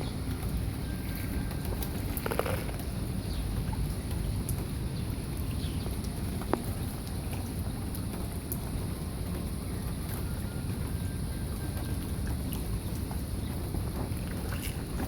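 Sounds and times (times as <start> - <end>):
low outdoor rumbling: 0.0 - 15.0.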